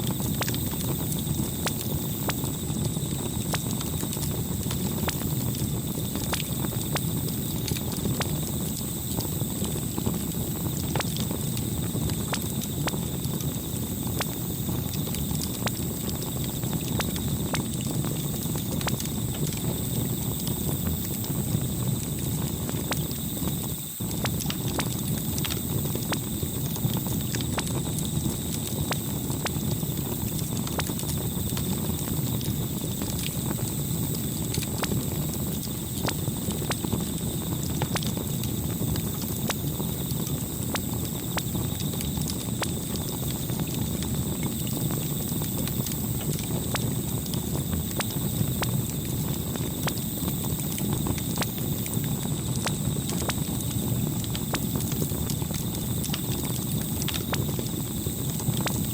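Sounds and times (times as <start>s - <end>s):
campfire crackling: 0.0s - 58.9s
fire pops and snaps: 0.0s - 58.9s.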